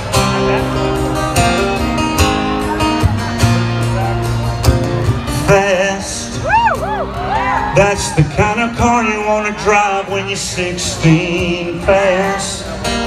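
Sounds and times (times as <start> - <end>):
live country band playing: 0.0 - 13.0
strummed acoustic guitar: 0.0 - 13.0.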